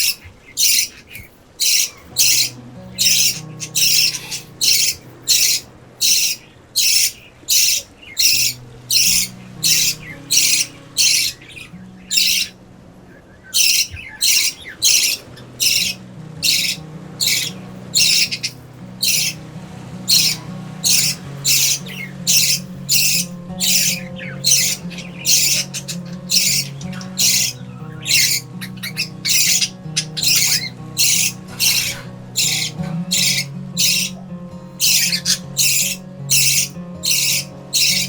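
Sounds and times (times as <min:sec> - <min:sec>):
budgerigar squawking: 0:00.0 - 0:38.0
soft background music: 0:00.0 - 0:38.0.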